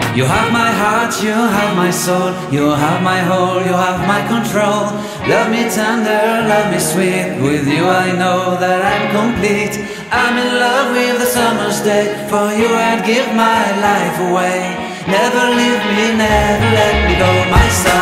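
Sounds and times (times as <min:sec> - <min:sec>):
music: 0:00.0 - 0:18.0
person singing: 0:00.0 - 0:18.0.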